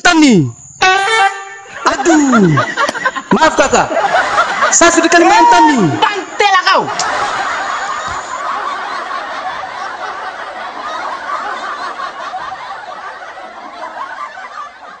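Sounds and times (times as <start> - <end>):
laugh track audience laughter: 1.6 - 15.0.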